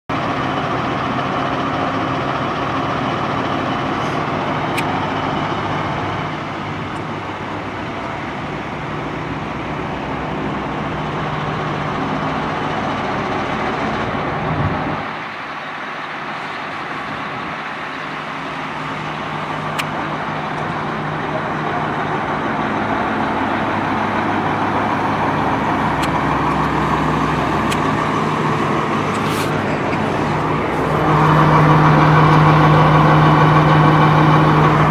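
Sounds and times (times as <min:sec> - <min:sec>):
bus engine running: 0:00.1 - 0:34.9.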